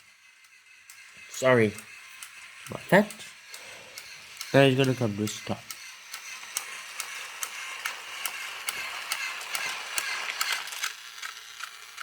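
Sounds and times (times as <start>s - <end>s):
steady clicking on track: 0.0s - 12.0s
toy train motor whirring: 0.0s - 12.0s.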